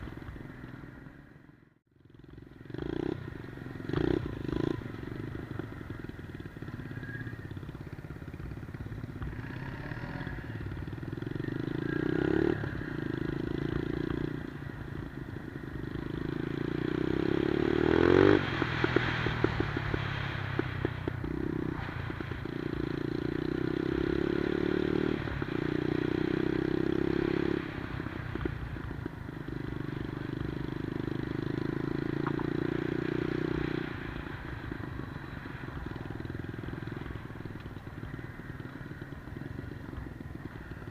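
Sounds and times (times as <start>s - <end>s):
minibike engine revving: 2.2s - 40.9s.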